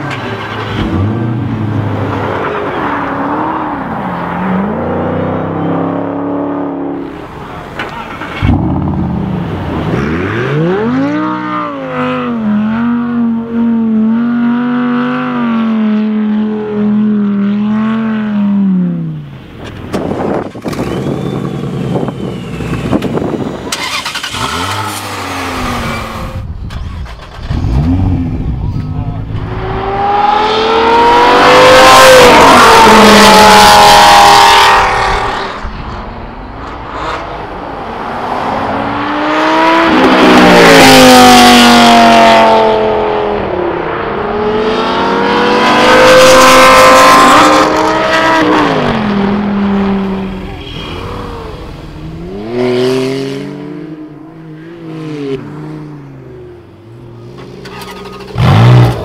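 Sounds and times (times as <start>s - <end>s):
loud car engine: 0.0s - 59.0s.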